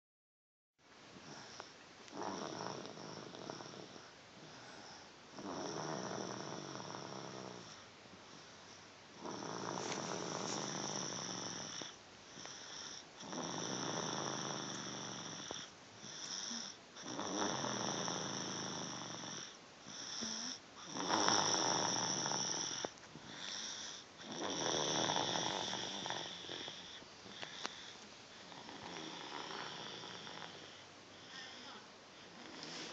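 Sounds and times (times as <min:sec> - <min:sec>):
toddler snoring: 0:01.2 - 0:32.9.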